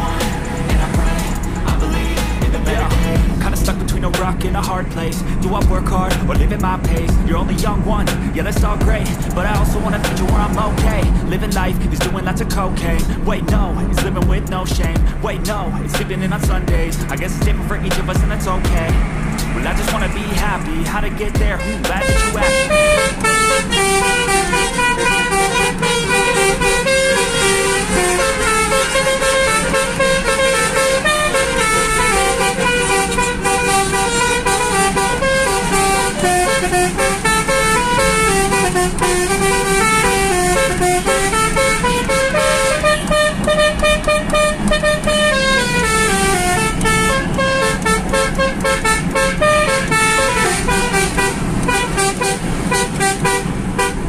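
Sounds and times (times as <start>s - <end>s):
air horn melody: 0.0s - 11.4s, 18.0s - 54.0s.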